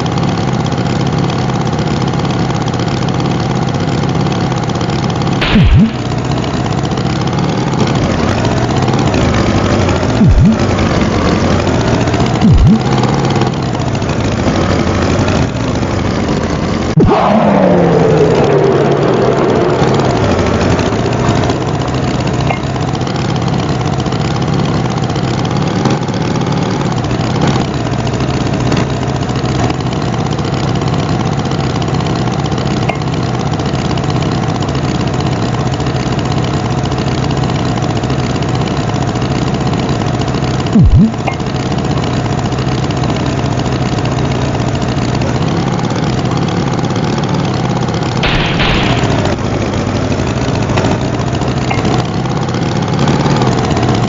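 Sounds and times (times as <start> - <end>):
tractor engine rumbling: 0.0 - 54.0.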